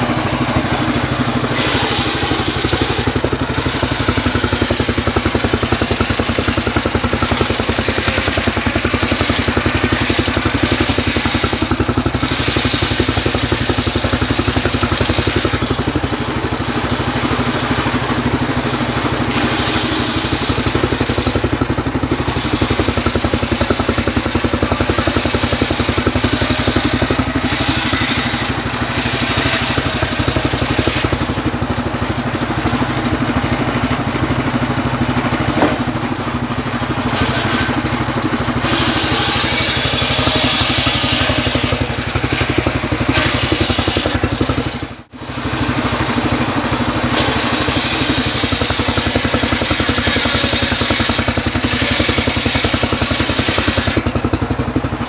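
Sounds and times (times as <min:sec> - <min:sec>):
saw blade hissing through wood: 0:00.0 - 0:31.8, 0:36.6 - 0:44.9, 0:46.8 - 0:55.0
engine running: 0:00.0 - 0:55.0.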